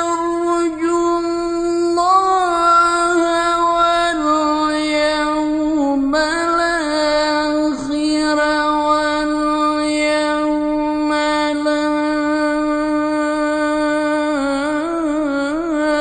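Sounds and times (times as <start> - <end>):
man reciting long high note: 0.0 - 16.0.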